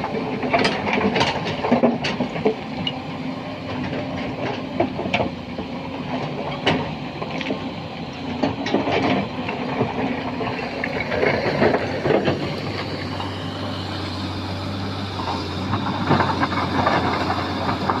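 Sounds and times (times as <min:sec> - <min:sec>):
excavator clanks and knocks: 0:00.0 - 0:18.0
excavator engine running: 0:00.0 - 0:18.0.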